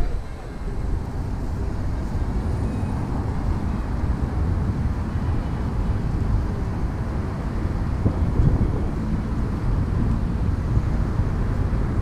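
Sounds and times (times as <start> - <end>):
road traffic rumble: 0.0 - 12.0
wind buffeting microphone: 0.0 - 12.0.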